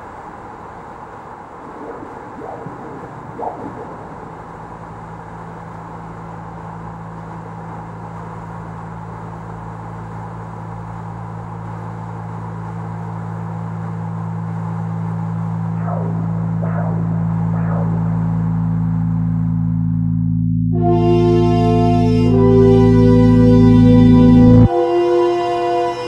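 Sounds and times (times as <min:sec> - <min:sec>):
low electronic drone: 0:01.1 - 0:26.0.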